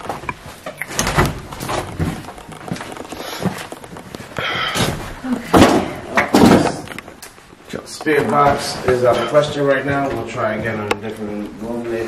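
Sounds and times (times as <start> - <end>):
footsteps in small room: 0.0 - 12.0
rustling: 0.0 - 12.0.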